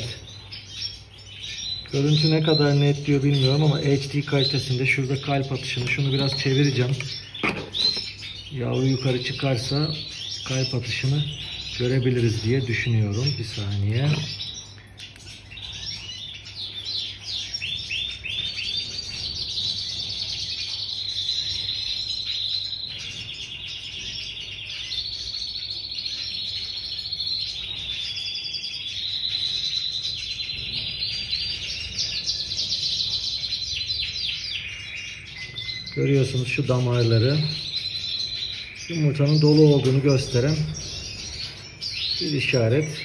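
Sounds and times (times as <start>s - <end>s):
finches singing: 0.0s - 43.0s.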